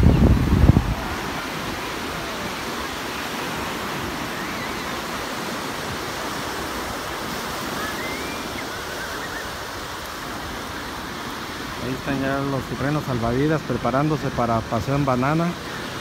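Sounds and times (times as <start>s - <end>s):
ocean waves breaking on shore: 0.0s - 16.0s.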